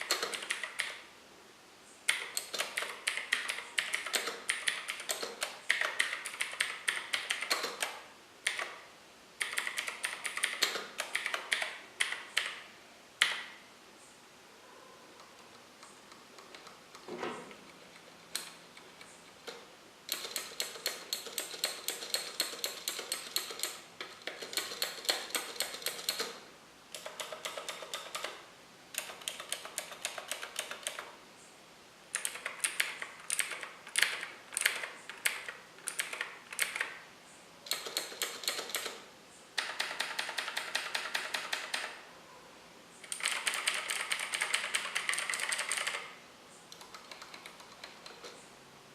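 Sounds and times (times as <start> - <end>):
mechanical keyboard clicks: 0.0 - 1.0, 2.1 - 8.8, 9.4 - 12.6, 15.3 - 28.4, 29.0 - 31.1, 32.1 - 37.0, 37.7 - 39.0, 39.6 - 42.0, 43.0 - 48.4.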